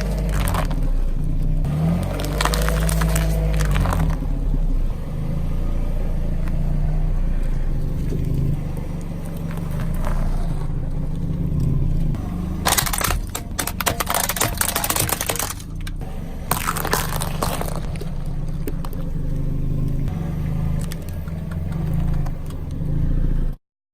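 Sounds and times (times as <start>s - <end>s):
car engine running low: 0.0s - 23.6s
objects crackling under a tyre: 0.0s - 23.6s.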